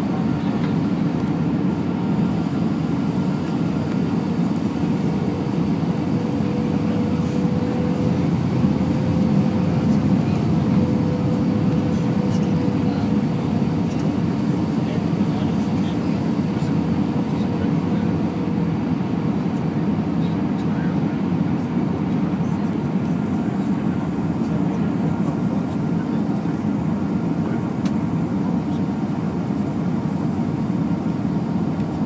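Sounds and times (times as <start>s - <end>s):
jet airliner cabin noise: 0.0s - 32.0s.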